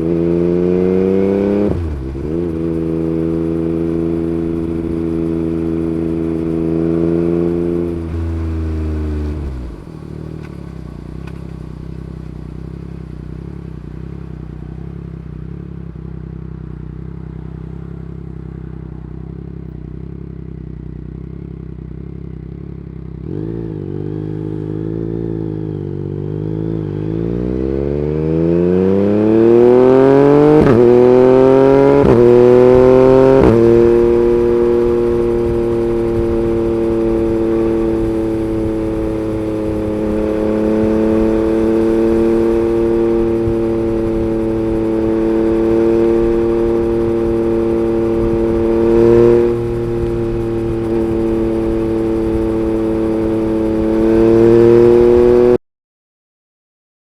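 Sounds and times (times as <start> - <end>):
motorcycle engine revving and idling: 0.0 - 55.6.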